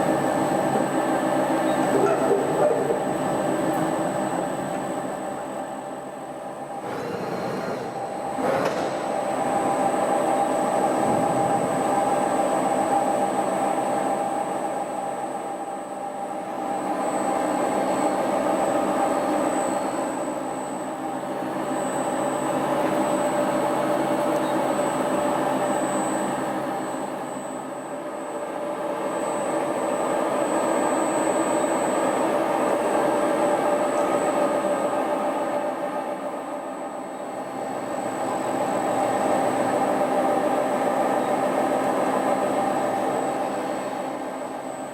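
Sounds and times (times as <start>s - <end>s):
milling machine whine: 3.0s - 44.9s.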